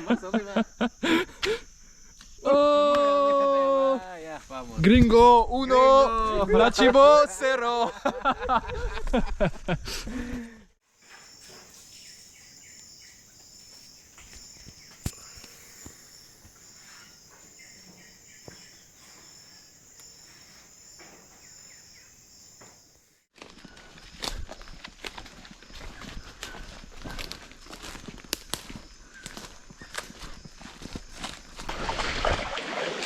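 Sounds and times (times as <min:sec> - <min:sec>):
insects trilling: 0:00.0 - 0:04.8, 0:10.8 - 0:32.5.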